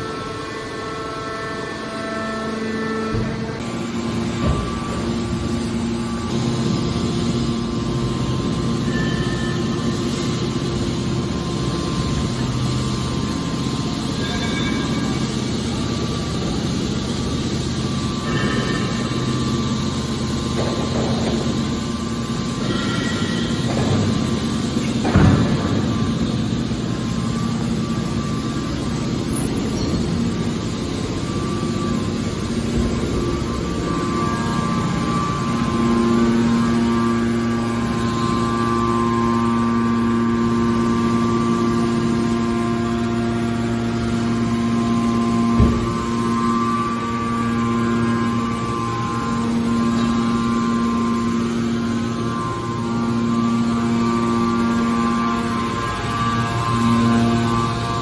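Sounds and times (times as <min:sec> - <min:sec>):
baler machine humming: 0:00.0 - 0:58.0.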